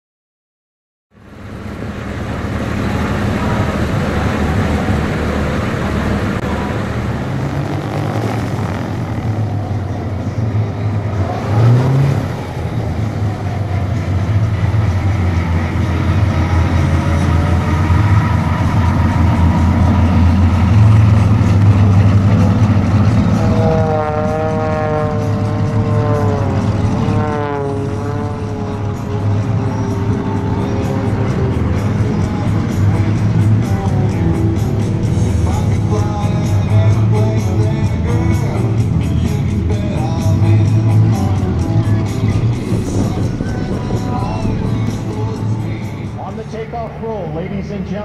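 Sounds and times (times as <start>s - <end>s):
aircraft engines droning: 1.2s - 48.0s.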